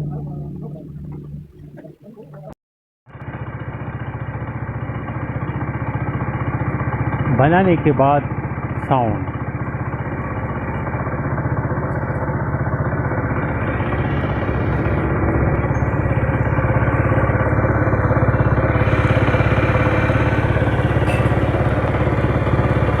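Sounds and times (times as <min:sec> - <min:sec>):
motorcycle engine running: 0:00.0 - 0:01.9, 0:03.1 - 0:23.0.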